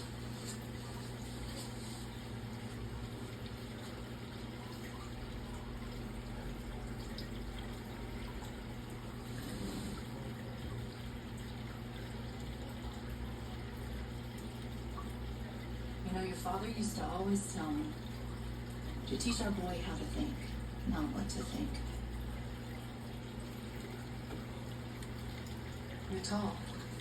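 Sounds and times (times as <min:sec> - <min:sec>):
low steady hum: 0:00.0 - 0:27.0
water trickling into tank: 0:00.0 - 0:27.0.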